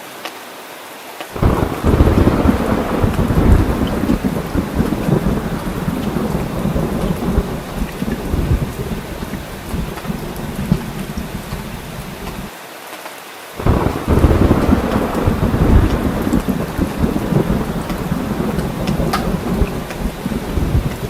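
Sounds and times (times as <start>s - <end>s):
heavy rain falling: 0.0s - 21.0s
deep rolling thunder: 1.4s - 12.5s, 13.6s - 21.0s.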